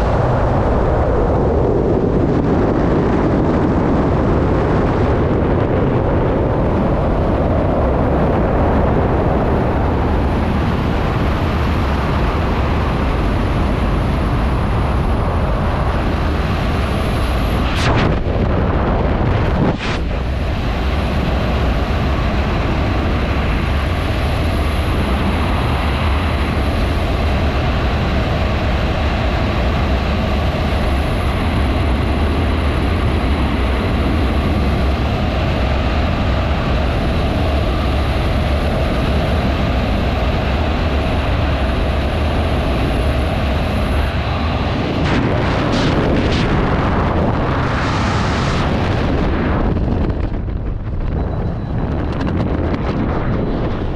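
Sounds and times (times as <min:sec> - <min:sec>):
freefall wind rushing: 0:00.0 - 0:53.9.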